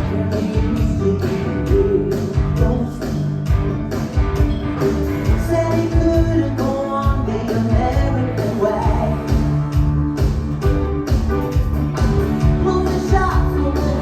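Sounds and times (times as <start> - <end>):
live rock band playing: 0.0 - 14.0
steady drum beat: 0.0 - 14.0.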